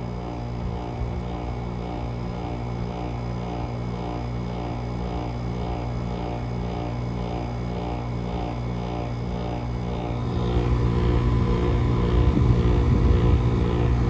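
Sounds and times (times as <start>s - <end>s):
air conditioner compressor humming: 0.0s - 14.0s.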